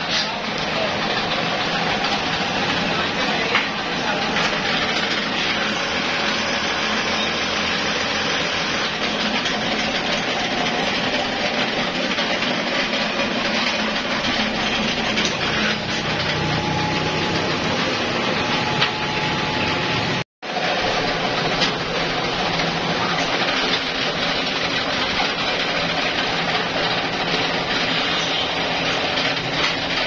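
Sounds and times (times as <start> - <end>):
workshop machinery running: 0.0 - 30.0.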